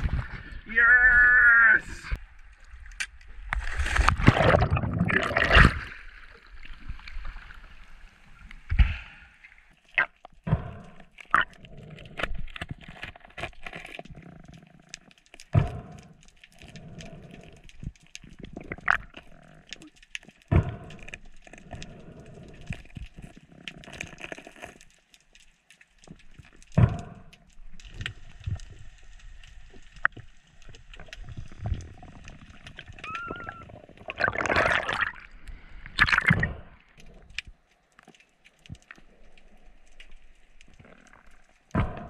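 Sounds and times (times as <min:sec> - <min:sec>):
water sloshing underwater: 0:00.0 - 0:01.1, 0:02.0 - 0:42.0.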